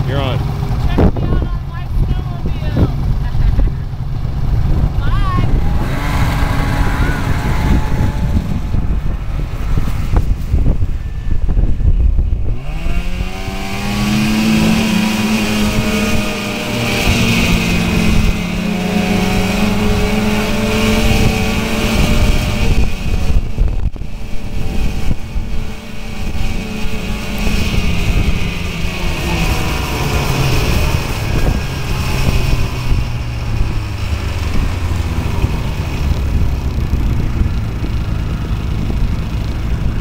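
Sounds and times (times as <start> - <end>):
snowmobile engine running: 0.0 - 40.0.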